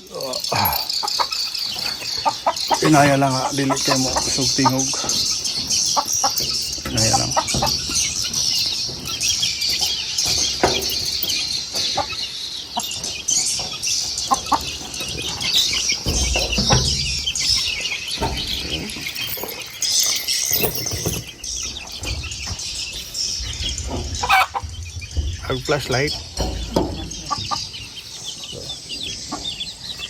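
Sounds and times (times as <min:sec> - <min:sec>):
handling thumps and rustling: 0:01.8 - 0:30.0.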